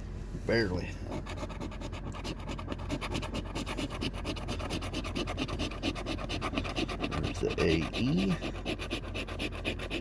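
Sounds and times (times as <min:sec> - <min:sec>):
scratch-off ticket being scratched: 0:01.1 - 0:10.0.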